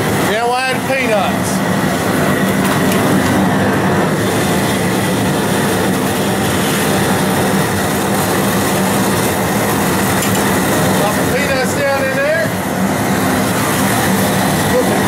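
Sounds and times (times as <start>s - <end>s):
gas burner rushing: 0.0s - 15.0s.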